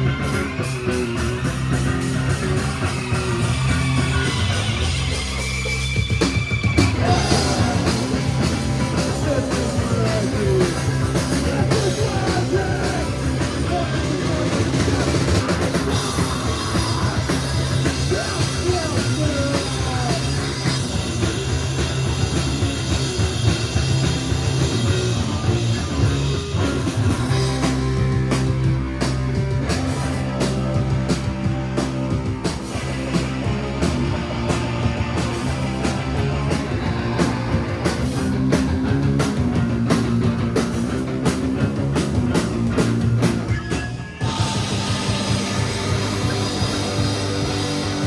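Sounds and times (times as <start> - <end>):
drum kit: 0.0 - 48.0
electric guitar: 0.0 - 48.0
live rock band playing: 0.0 - 48.0.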